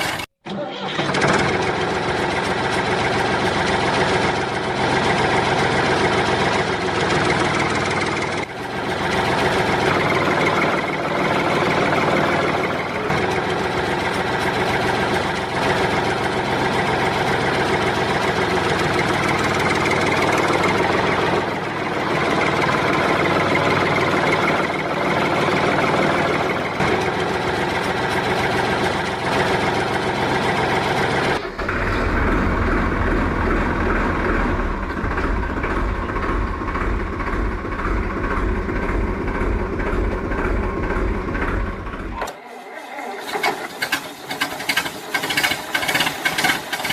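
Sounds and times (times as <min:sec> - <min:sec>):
heavy vehicle engine running: 0:00.0 - 0:46.9.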